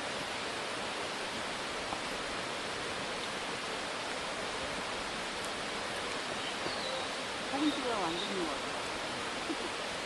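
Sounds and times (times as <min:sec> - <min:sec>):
stream rushing over rocks: 0:00.0 - 0:10.0.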